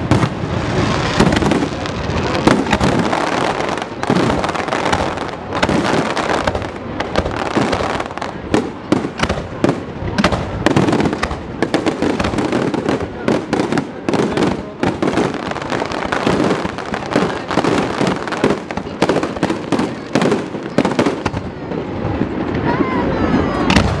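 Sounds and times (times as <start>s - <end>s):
sharp firework cracks: 0.0s - 22.6s, 23.6s - 24.0s.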